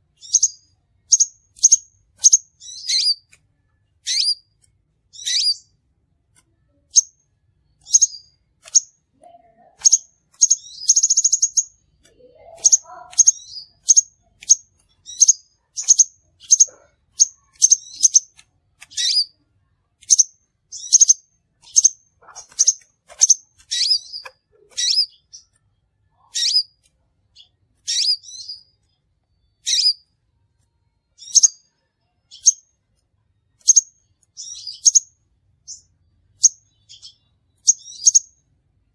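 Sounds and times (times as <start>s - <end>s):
bird chirping and trilling: 0.0s - 5.8s, 6.6s - 30.2s, 31.0s - 32.9s, 33.6s - 38.5s.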